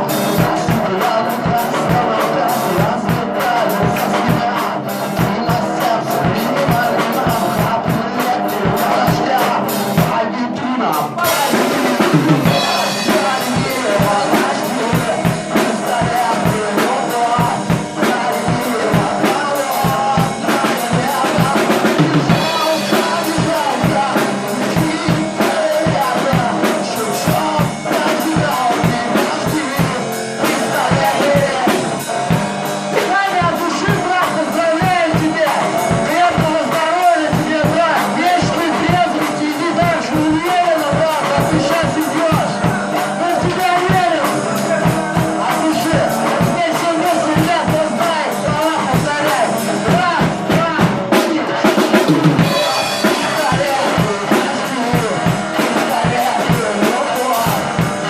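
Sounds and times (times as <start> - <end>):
drum kit beat: 0.0 - 58.0
person singing: 0.0 - 58.0.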